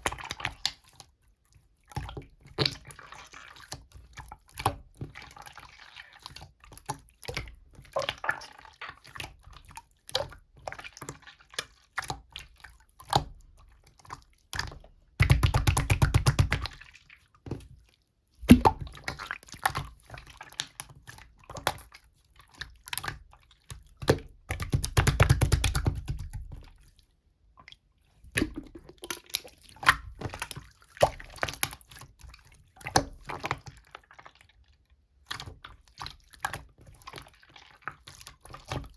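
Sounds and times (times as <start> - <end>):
slime squishing: 0.0 - 38.9.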